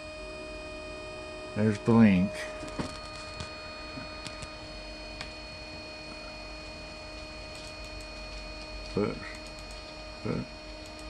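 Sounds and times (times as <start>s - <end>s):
electrical hum: 0.0s - 11.0s
high whining electronic tones: 0.0s - 11.0s.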